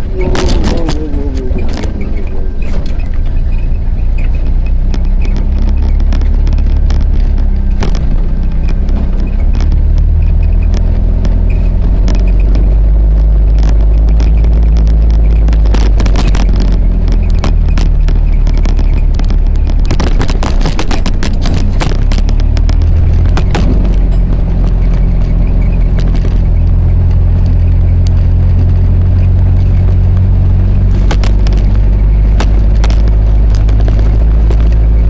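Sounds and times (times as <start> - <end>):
vehicle engine rumbling: 0.0 - 35.0
vehicle knocks and rattles: 0.0 - 35.0.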